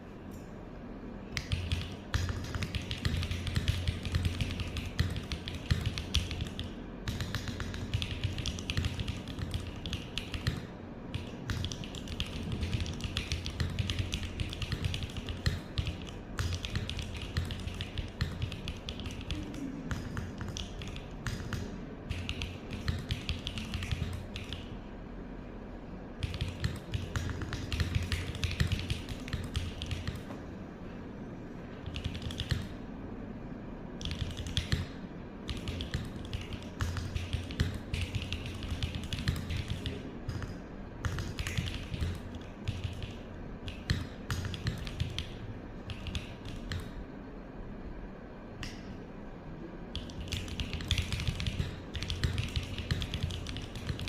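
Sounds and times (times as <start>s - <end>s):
typing on mechanical keyboard: 1.4s - 24.7s, 26.2s - 30.3s, 31.8s - 32.8s, 34.0s - 47.0s, 49.9s - 54.0s.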